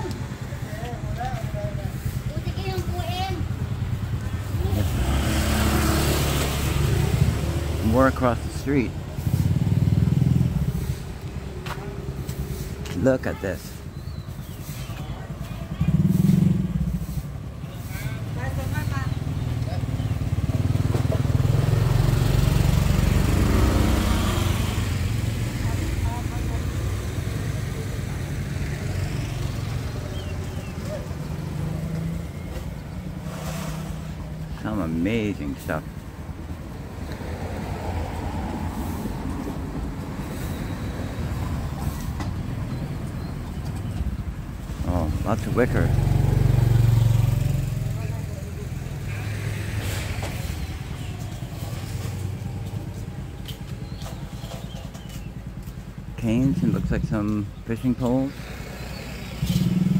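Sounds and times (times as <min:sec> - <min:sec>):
street traffic hum: 0:00.0 - 0:59.9.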